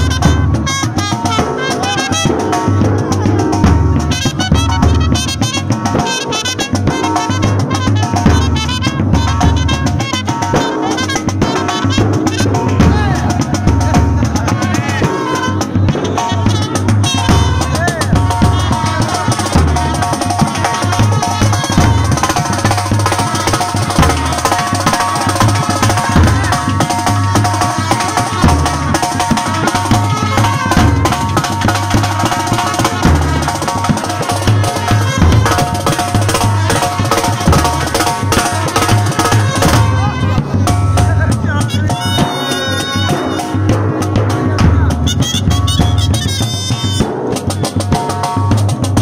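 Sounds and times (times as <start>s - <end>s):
bass drum: 0.0s - 49.0s
snare drum: 0.0s - 49.0s
trumpets playing melody: 0.0s - 49.0s.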